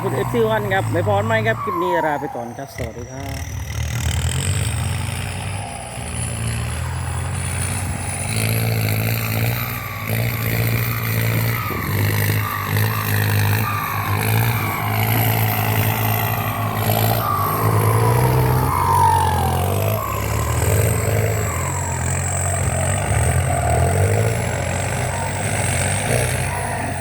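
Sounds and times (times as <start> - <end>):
tractor diesel engine throbbing: 0.0 - 27.0.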